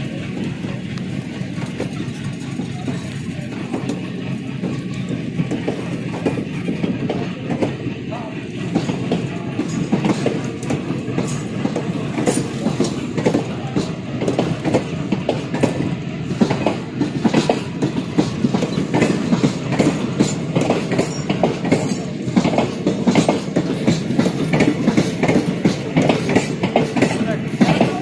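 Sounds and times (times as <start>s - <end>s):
low train rumble: 0.0s - 28.0s
train wheels clattering over rails: 0.0s - 28.0s.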